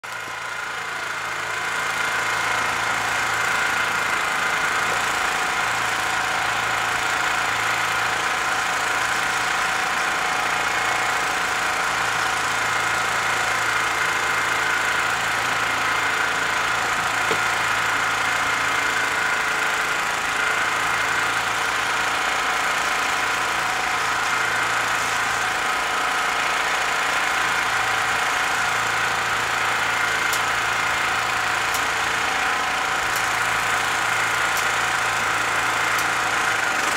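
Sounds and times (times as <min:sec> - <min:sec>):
turbojet engine idling: 0:00.1 - 0:36.9.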